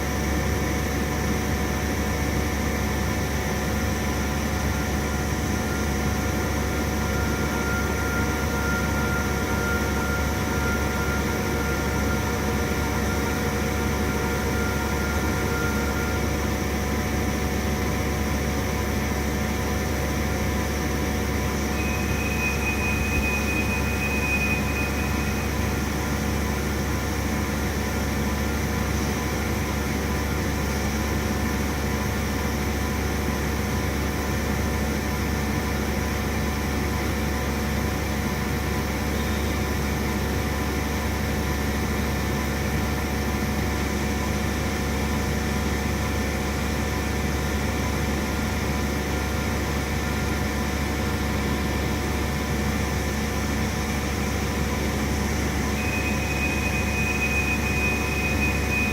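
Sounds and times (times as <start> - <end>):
milling machine whining hum: 0.0 - 58.9.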